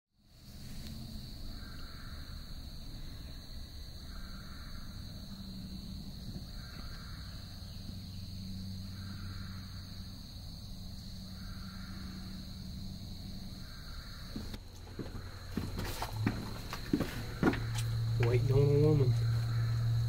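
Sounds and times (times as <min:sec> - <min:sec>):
low steady hum: 0:00.2 - 0:20.0
high-pitched insect drone: 0:00.3 - 0:20.0.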